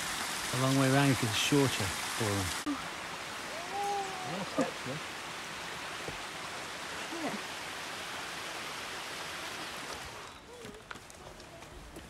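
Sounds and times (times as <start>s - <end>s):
stream running water: 0.0s - 12.0s.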